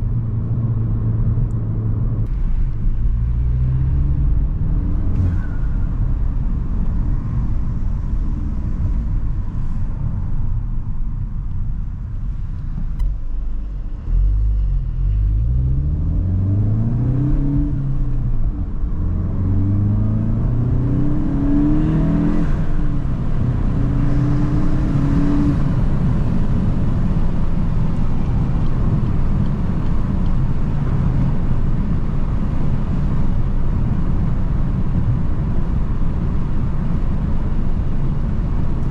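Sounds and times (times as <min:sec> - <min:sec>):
car engine accelerating through gears: 0:00.0 - 0:10.5, 0:12.6 - 0:38.9
road noise: 0:00.0 - 0:38.9.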